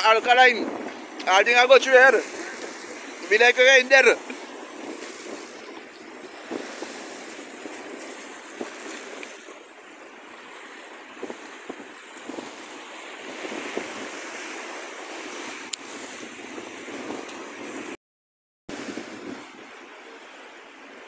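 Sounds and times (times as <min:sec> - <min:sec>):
sea surf on rocky shore: 0:00.0 - 0:18.0, 0:18.7 - 0:21.0
wind: 0:00.0 - 0:18.0, 0:18.7 - 0:21.0.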